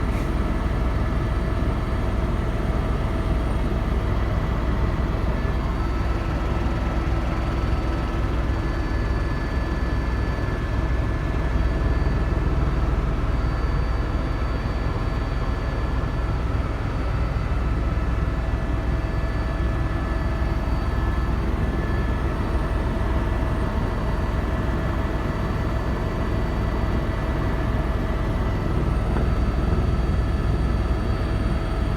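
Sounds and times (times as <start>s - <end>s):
helicopter rotor drone: 0.0s - 31.9s.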